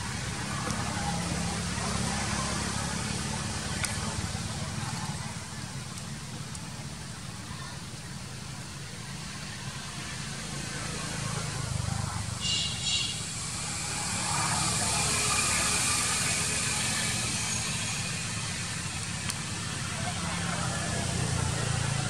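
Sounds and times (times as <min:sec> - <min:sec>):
low outdoor rumble with hiss: 0:00.0 - 0:22.0.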